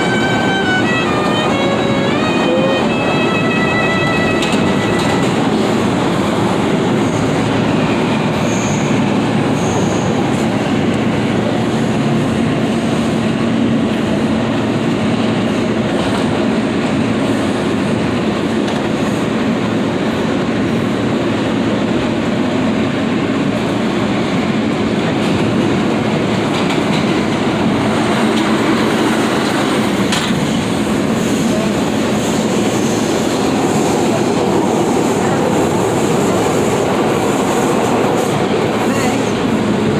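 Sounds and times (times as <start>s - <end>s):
subway train wheels rumbling: 0.0s - 39.9s.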